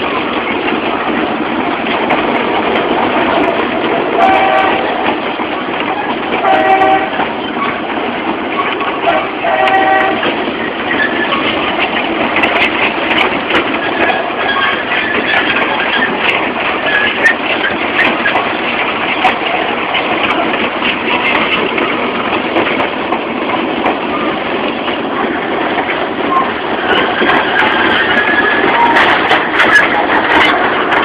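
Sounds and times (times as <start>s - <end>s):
sharp clicks of train wheels: 0.0s - 31.0s
train rattling rumble: 0.0s - 31.0s.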